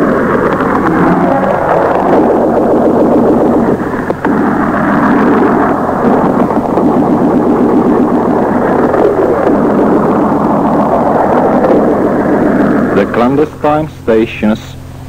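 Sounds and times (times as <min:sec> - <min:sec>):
radio static and hiss: 0:00.0 - 0:15.0.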